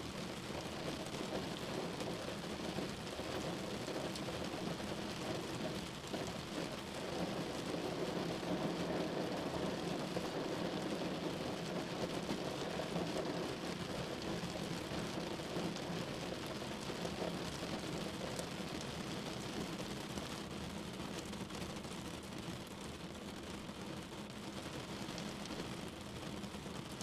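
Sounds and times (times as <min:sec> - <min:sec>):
rain falling on a window: 0:00.0 - 0:27.0.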